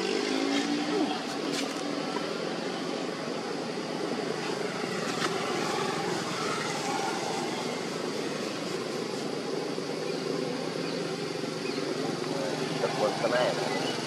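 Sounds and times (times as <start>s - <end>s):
steady engine drone: 0.0s - 14.0s.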